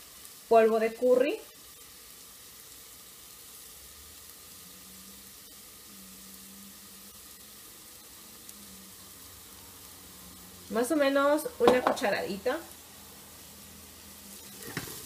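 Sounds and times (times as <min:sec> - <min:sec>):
onion and garlic sizzling in oil: 0:00.0 - 0:15.0.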